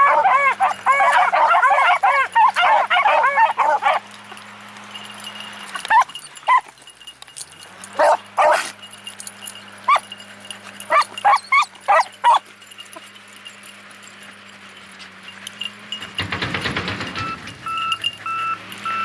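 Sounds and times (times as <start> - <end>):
dogs barking: 0.0 - 6.8, 7.7 - 19.0
road construction equipment running: 0.0 - 19.0.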